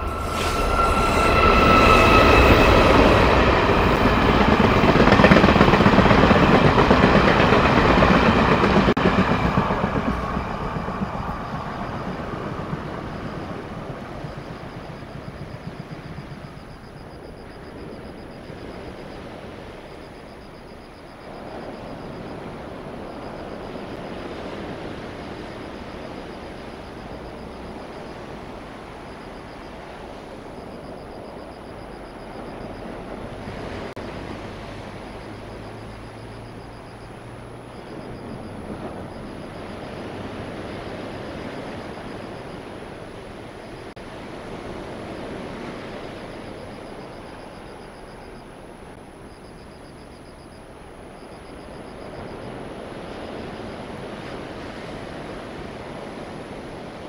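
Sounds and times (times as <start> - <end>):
distant train rumble: 0.0 - 57.0
surf on a stony beach: 0.0 - 57.0.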